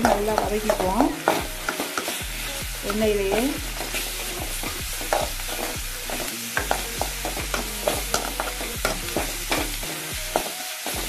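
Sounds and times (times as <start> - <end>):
metal spoon scraping a pan: 0.0 - 11.0
onions sizzling in hot oil: 0.0 - 11.0.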